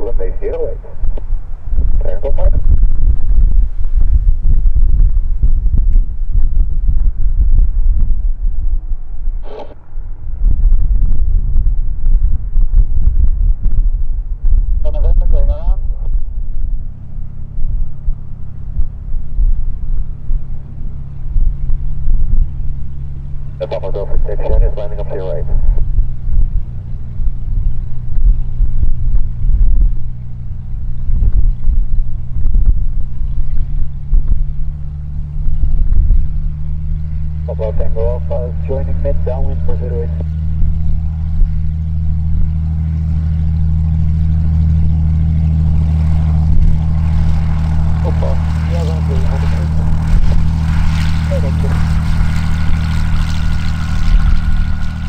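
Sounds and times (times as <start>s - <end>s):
distant aircraft engine drone: 0.0s - 55.0s
wind rumbling on microphone: 0.0s - 55.0s.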